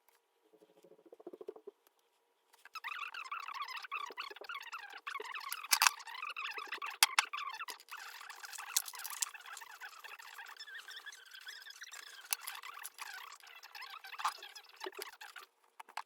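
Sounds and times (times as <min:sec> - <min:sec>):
thin chirping squeak: 0:02.6 - 0:16.0.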